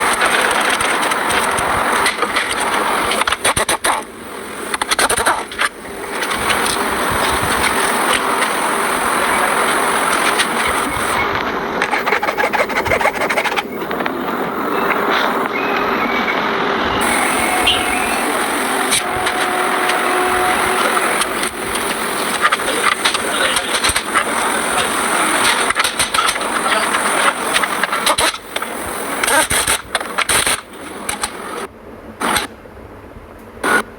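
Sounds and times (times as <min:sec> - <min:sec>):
sharp clicks: 0:00.0 - 0:16.4, 0:17.0 - 0:32.6
road and wind noise: 0:00.0 - 0:33.9.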